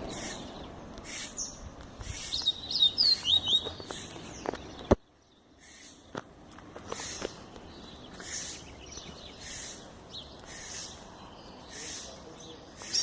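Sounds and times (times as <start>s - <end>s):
buzzy songbird call: 0.0s - 4.8s, 7.0s - 13.0s.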